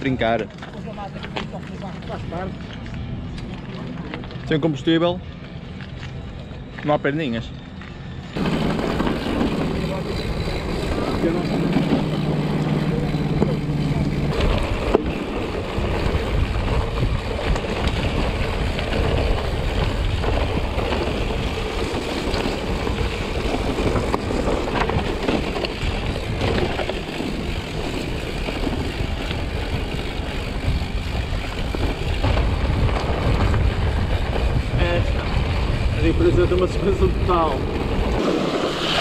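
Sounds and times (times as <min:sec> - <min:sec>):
bike clicks and rattles: 0:00.0 - 0:38.3
bike tyres rolling over dirt: 0:00.0 - 0:39.0.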